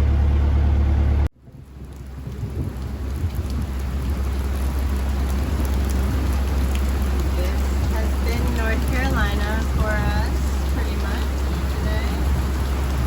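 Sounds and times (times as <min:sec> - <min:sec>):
deep steady rumble: 0:00.0 - 0:13.0
heavy rain: 0:01.4 - 0:13.0.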